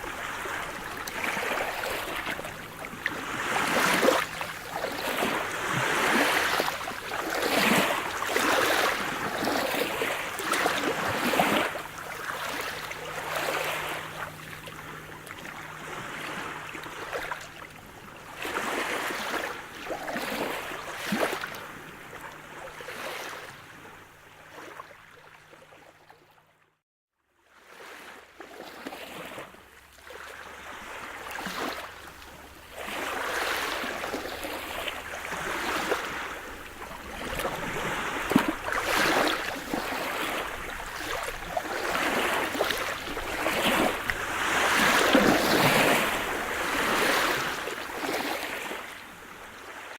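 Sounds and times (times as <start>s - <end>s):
waves washing in and draining: 0.0s - 24.9s, 27.6s - 49.9s.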